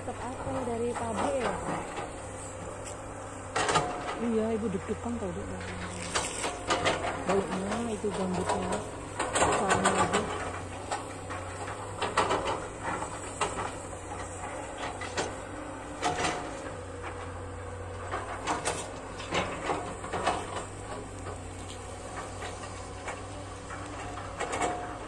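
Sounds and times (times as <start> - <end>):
machine clanks and knocks: 0.0 - 2.8, 3.4 - 25.0
low engine drone: 0.0 - 25.0.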